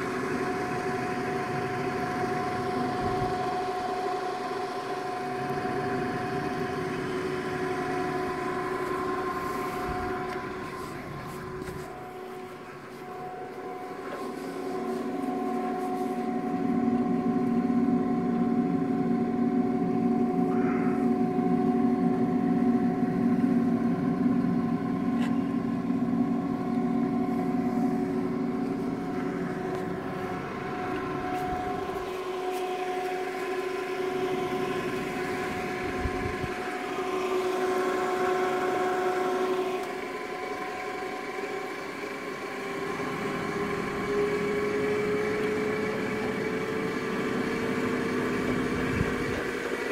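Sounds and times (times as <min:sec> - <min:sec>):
paddle mixer humming and whining: 0:00.0 - 0:49.9.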